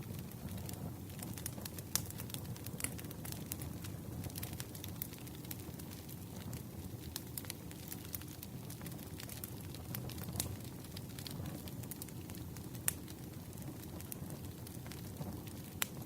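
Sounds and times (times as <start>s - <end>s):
burning wood crackles and pops: 0.0s - 16.0s
campfire rumble: 0.0s - 16.0s.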